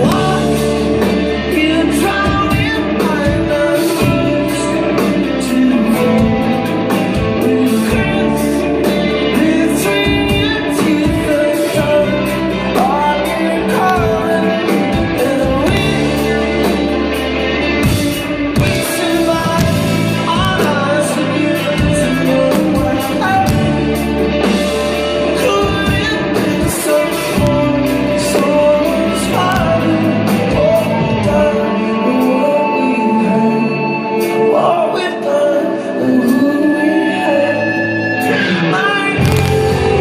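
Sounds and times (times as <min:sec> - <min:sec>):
deep bass: 0:00.0 - 0:32.6, 0:38.6 - 0:40.0
person singing: 0:00.0 - 0:40.0
rock band playing live: 0:00.0 - 0:40.0.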